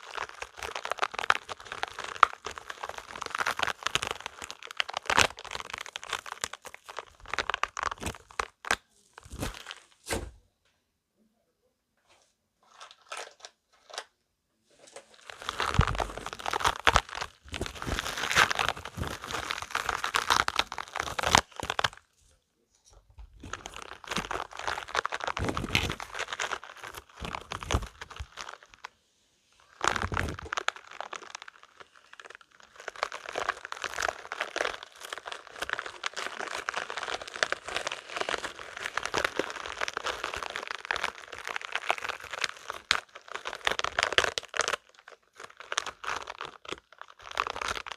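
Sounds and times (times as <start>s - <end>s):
rubber balls squeezed and rubbed: 0.0s - 9.8s, 14.8s - 22.2s, 23.3s - 28.9s, 29.6s - 47.9s.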